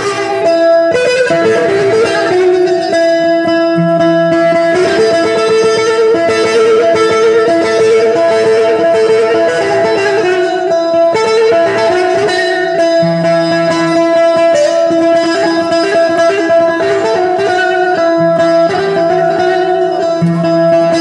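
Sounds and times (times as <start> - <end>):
plucked lute melody over drone: 0.0 - 21.0.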